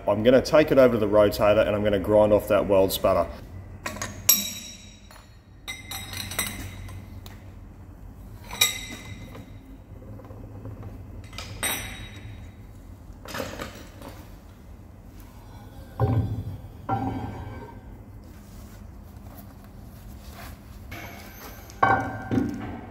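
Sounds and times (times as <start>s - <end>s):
low shop hum: 0.0s - 22.9s.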